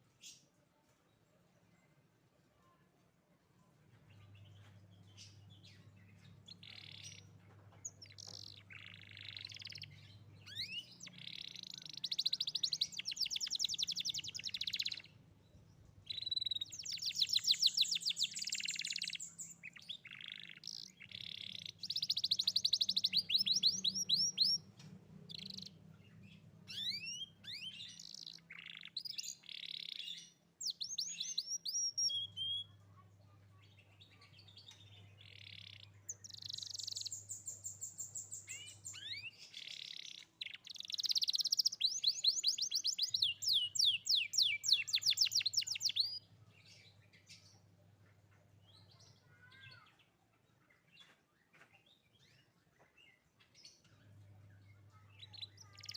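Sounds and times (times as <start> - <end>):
canary singing in trills: 4.1 - 50.8, 51.8 - 55.9.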